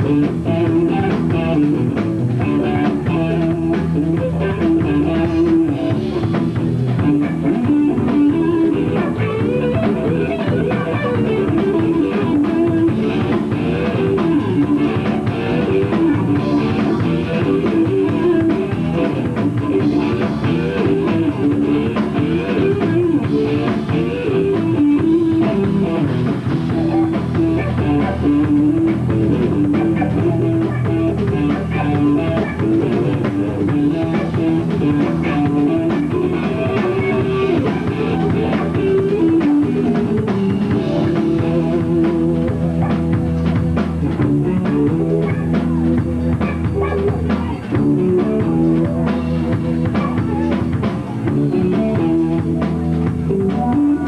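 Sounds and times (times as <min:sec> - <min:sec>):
amplified electric guitars: 0:00.0 - 0:54.0
drum kit: 0:00.0 - 0:54.0.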